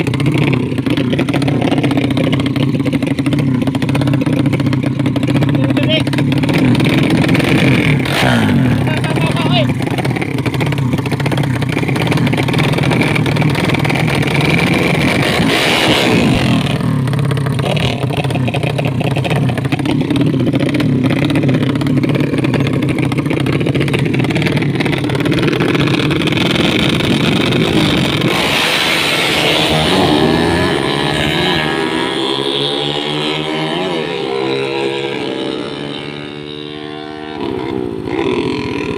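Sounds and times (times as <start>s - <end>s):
loud engine running: 0.0s - 38.9s.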